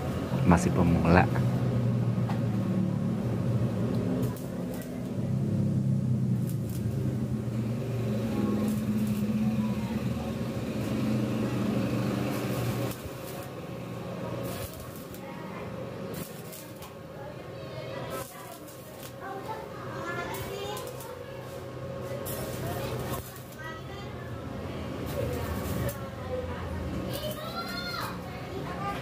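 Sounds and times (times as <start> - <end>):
welder low hum: 0.0 - 28.2
welding arc crackles: 0.0 - 29.0.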